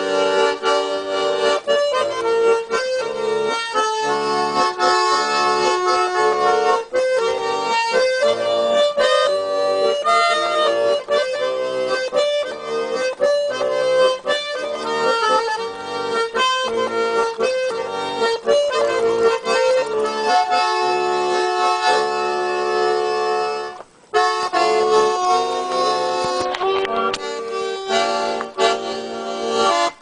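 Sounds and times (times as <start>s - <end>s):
button accordion playing: 0.0s - 30.0s.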